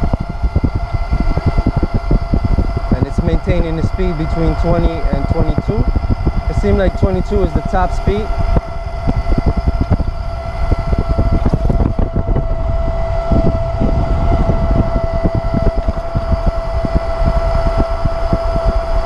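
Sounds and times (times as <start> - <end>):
electric motor whine: 0.0 - 19.0
wind buffeting microphone: 0.0 - 19.0.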